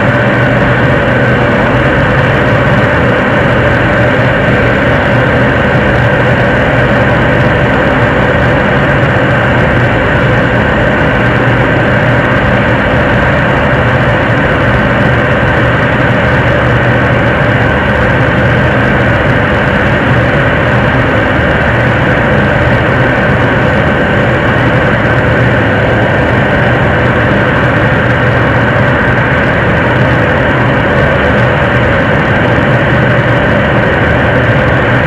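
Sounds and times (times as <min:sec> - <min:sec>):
rocket engine roaring: 0:00.0 - 0:35.0.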